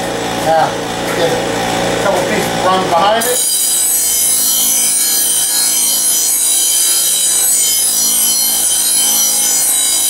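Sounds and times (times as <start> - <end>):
bench grinder grinding steel: 0.0 - 10.0.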